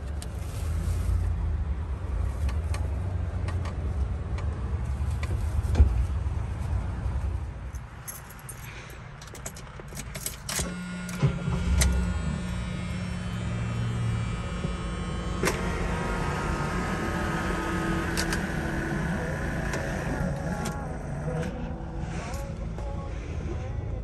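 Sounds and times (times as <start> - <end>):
mechanical hum in car cabin: 0.0 - 24.0.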